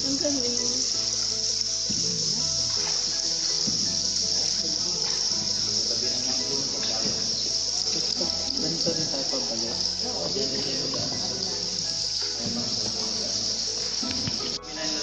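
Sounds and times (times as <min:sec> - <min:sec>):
insect chorus trilling: 0:00.0 - 0:15.0
faint murmuring voices: 0:01.9 - 0:15.0.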